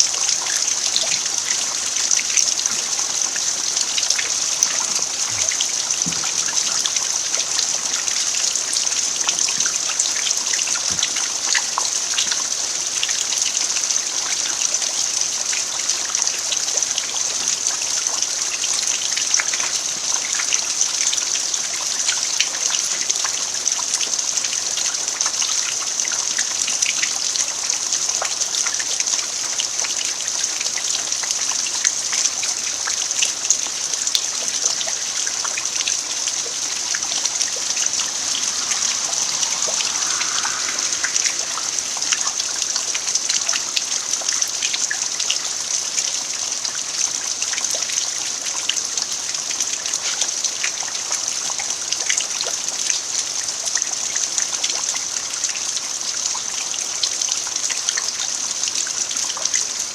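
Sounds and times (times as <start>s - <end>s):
rain on bare earth: 0.0s - 59.9s.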